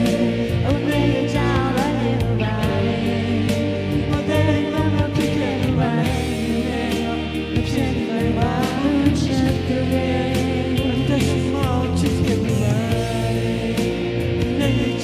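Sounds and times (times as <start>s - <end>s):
live band music: 0.0s - 15.0s
person singing: 0.0s - 15.0s.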